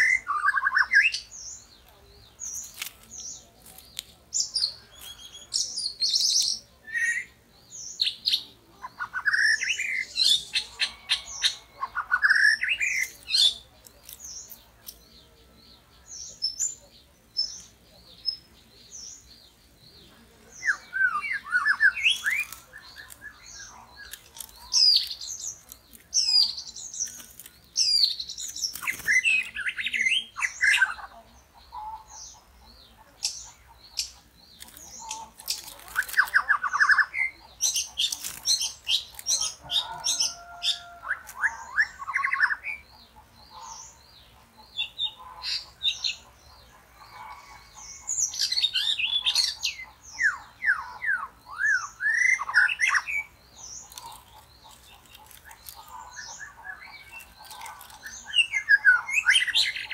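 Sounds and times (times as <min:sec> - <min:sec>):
birds chirping and whistling: 0:00.0 - 0:59.9.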